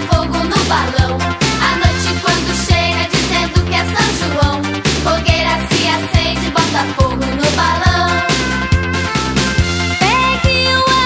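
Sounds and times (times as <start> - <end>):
dance music with steady beat: 0.0 - 11.0.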